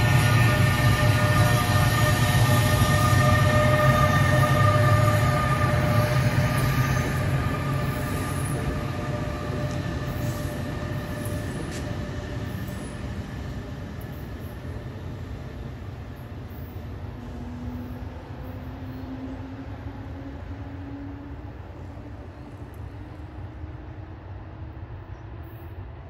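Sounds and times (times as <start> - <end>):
train wheel squeal: 0.0 - 15.0, 16.1 - 23.3, 25.1 - 26.0
train rumble: 0.0 - 26.0.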